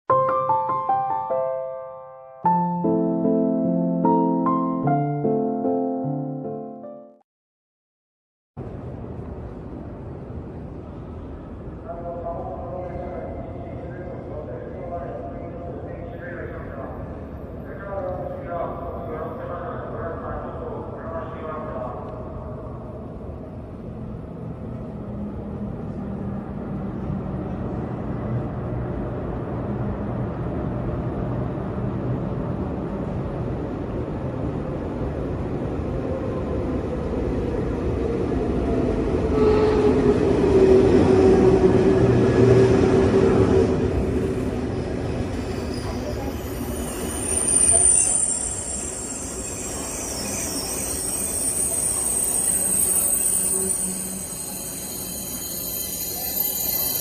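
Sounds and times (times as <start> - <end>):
train rumbling: 8.6 - 57.0.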